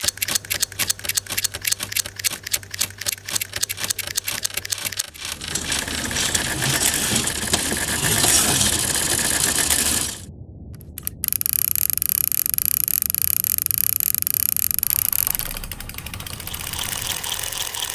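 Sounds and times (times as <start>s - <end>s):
machine mechanism clicking rapidly: 0.0s - 10.2s, 10.8s - 17.9s
steady low hum: 0.0s - 17.6s
dense mechanical whirr: 0.0s - 17.9s.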